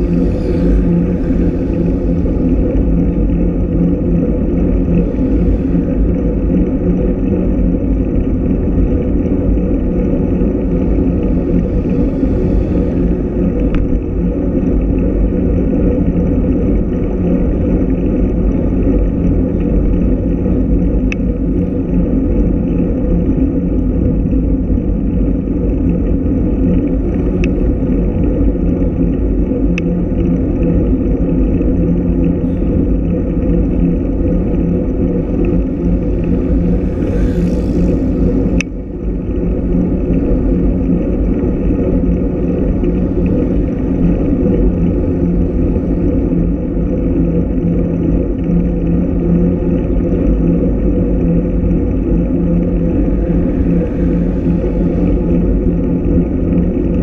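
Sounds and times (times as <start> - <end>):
wind and road rumble: 0.0 - 57.0.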